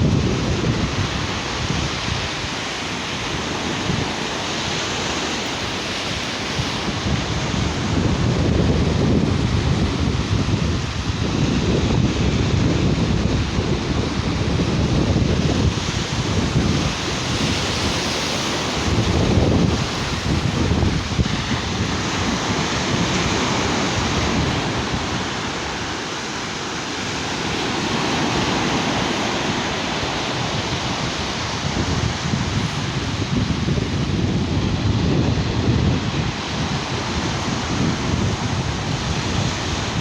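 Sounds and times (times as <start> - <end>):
waves breaking on a beach: 0.0 - 40.0
wind buffeting microphone: 0.0 - 40.0.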